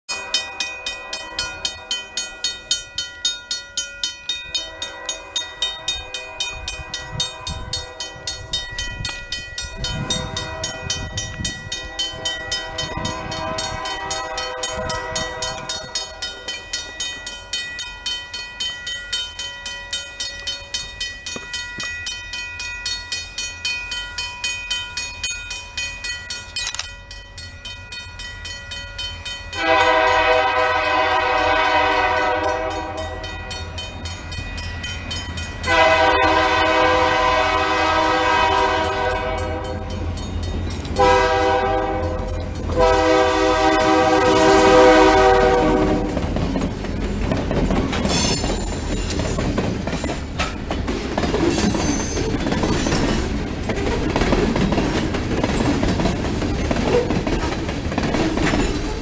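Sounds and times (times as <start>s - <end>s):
crossing bell ringing: 0.1s - 59.0s.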